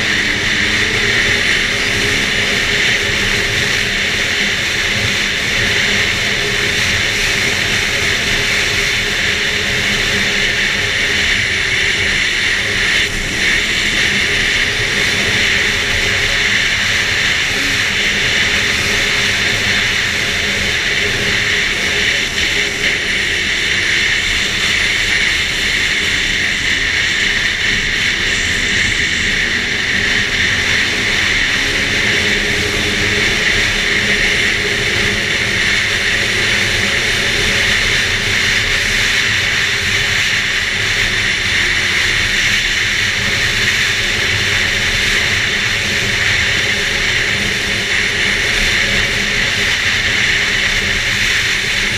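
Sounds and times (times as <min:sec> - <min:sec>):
snowmobile engine running: 0:00.0 - 0:51.9
snowmobile track noise: 0:00.0 - 0:51.9.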